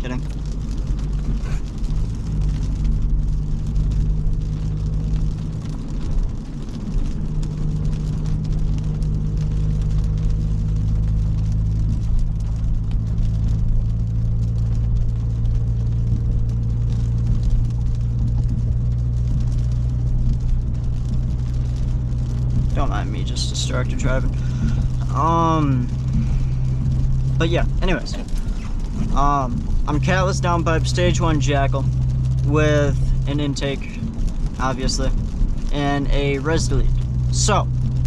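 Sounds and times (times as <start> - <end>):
car exhaust drone: 0.0 - 38.0
road noise inside car: 0.0 - 38.0.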